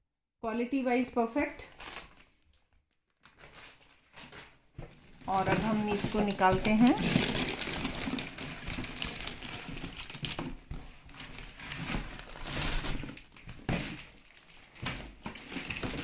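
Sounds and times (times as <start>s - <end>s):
packaging crinkling and rustling: 1.6s - 16.0s.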